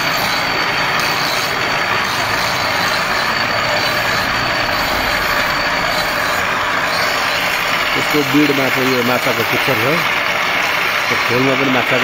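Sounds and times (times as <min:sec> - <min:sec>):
knife on grinding wheel: 0:00.0 - 0:12.0.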